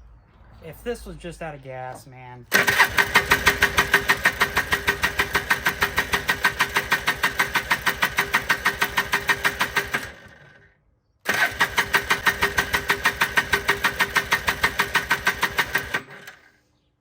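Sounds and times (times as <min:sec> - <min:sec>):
engine cranking not catching: 0:02.5 - 0:16.6.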